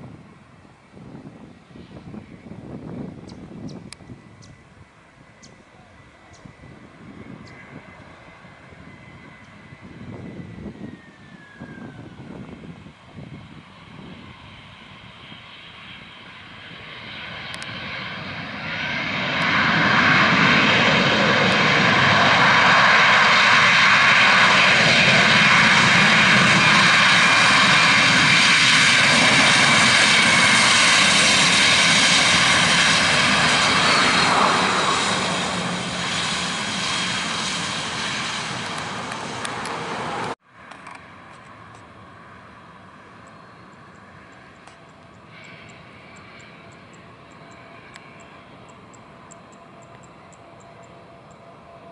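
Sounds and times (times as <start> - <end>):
jet engine roar and whine: 0.0 - 51.9.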